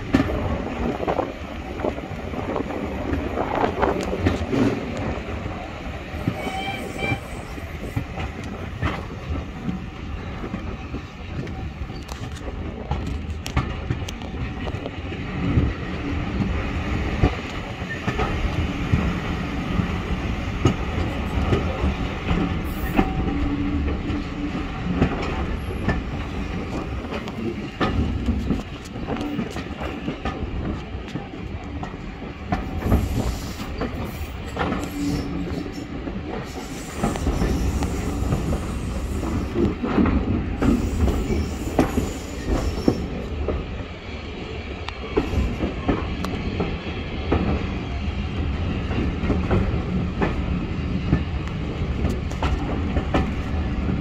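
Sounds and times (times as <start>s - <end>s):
train carriage rumble: 0.0s - 54.0s.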